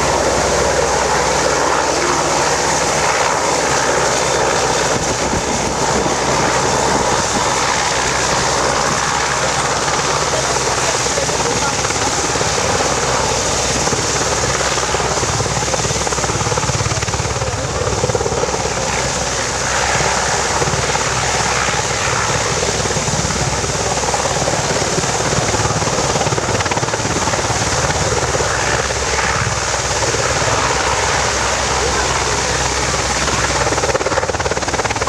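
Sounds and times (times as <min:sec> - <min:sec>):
helicopter turbine and rotor noise: 0:00.0 - 0:35.0.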